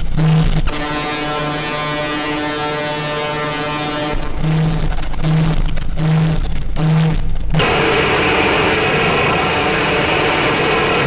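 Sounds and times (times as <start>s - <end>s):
steady buzzing tone: 0.0s - 11.0s
stuttering low hum: 0.0s - 11.0s
synthesizer harsh noise: 0.0s - 11.0s.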